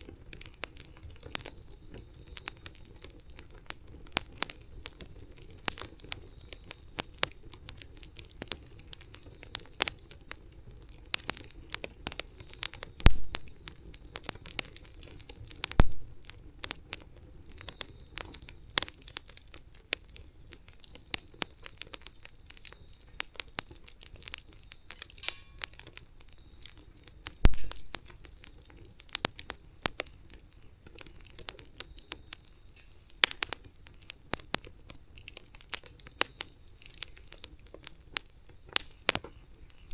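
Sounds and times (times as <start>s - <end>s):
low rush of flame: 0.0s - 36.0s
loud fire pops: 0.0s - 39.9s
wood fire crackling: 0.0s - 39.9s.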